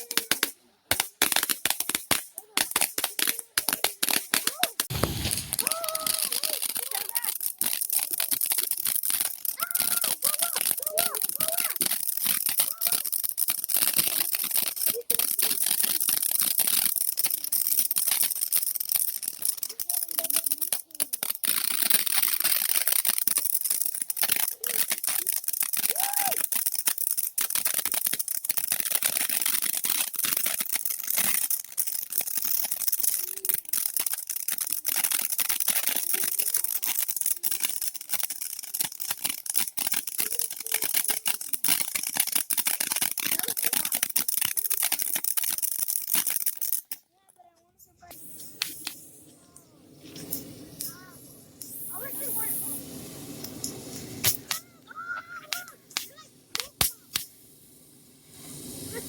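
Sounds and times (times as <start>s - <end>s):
firework fizzing and crackling: 0.0s - 59.0s.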